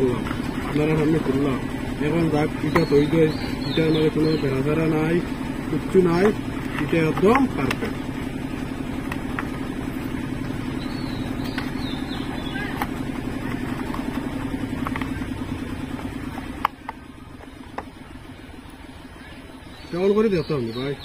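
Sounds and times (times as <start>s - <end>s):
small engine idling: 0.0s - 21.0s.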